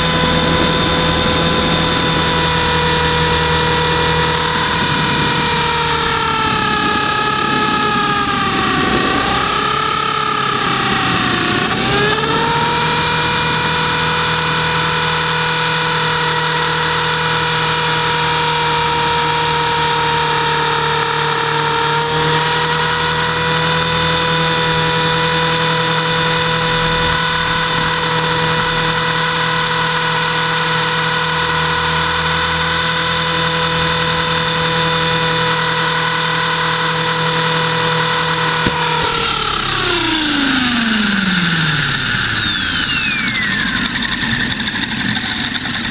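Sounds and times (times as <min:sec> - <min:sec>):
rc helicopter motor whine: 0:00.0 - 0:45.9.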